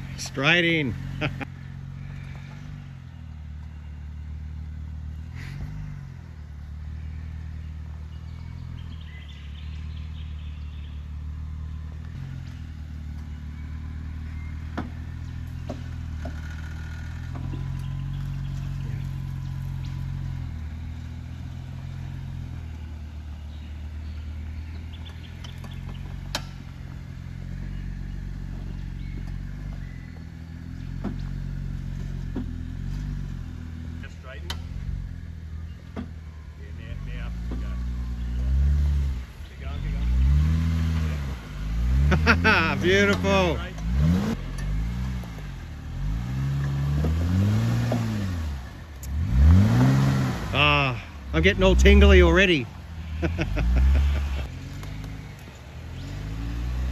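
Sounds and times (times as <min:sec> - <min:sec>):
vehicle engine at low revs: 0:00.0 - 0:56.9.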